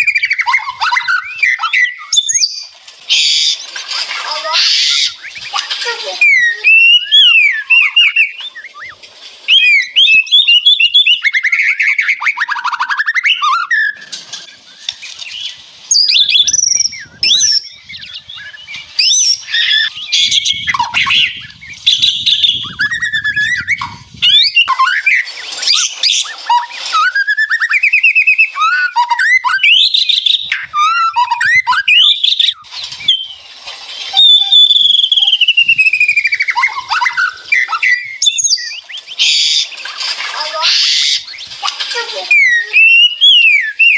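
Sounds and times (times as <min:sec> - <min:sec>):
bird singing whistles and trills: 0:00.0 - 0:03.8, 0:04.4 - 0:43.9.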